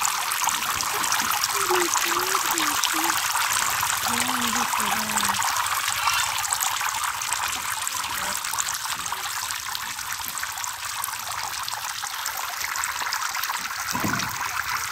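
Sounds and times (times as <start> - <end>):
fountain splashing into pond: 0.0 - 14.9.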